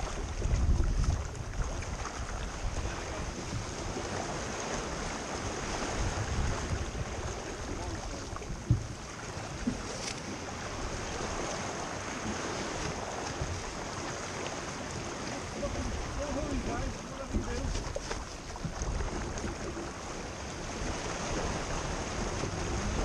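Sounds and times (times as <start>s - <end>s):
water rushing along hull: 0.0s - 23.0s
wind buffeting microphone: 0.0s - 23.0s.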